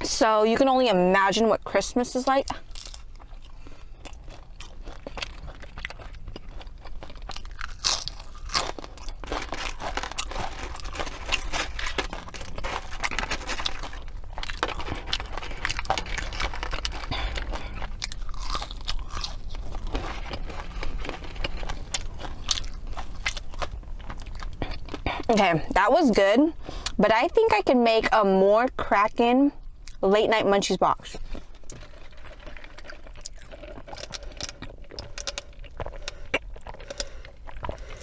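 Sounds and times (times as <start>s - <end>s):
chewing and crunching food: 0.0s - 38.0s.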